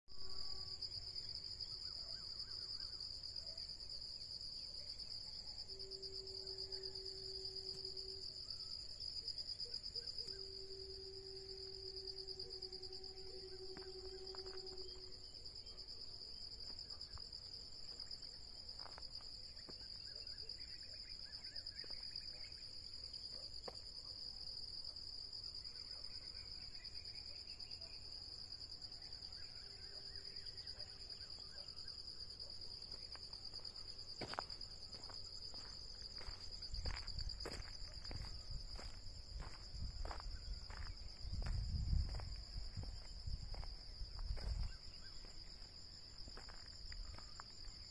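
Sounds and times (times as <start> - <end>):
insects trilling: 0.1 - 47.9.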